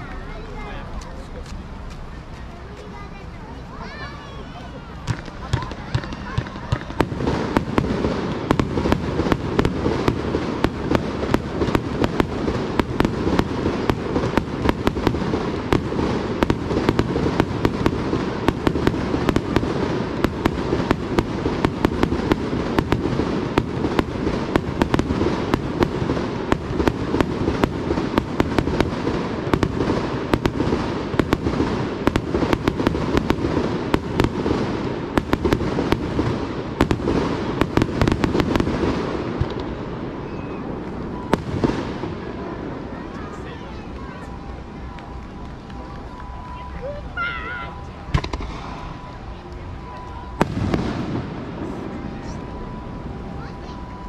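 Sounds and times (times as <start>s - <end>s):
low rumble and crackle: 0.0s - 54.0s.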